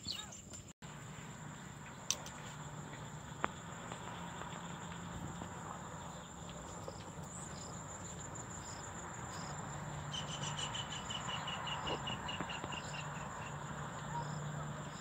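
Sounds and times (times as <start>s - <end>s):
insects buzzing: 0.0s - 15.0s
rapid insect chirps: 0.0s - 15.0s
short insect calls: 0.0s - 15.0s.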